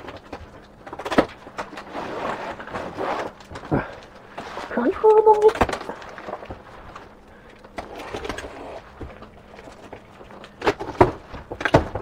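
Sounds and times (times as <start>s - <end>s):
cardboard rustling and scraping: 0.0s - 12.0s.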